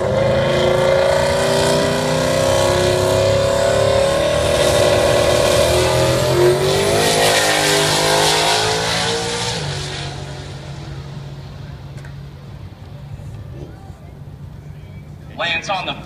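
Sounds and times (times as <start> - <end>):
drag car engine roaring: 0.0 - 16.0.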